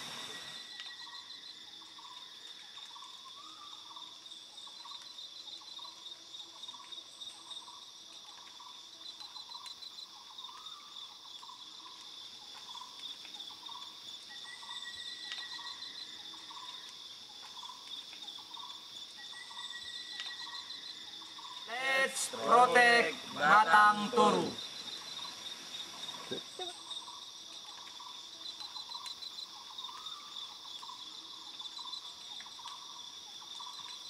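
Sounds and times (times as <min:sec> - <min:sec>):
insects buzzing and trilling: 0:00.0 - 0:34.0.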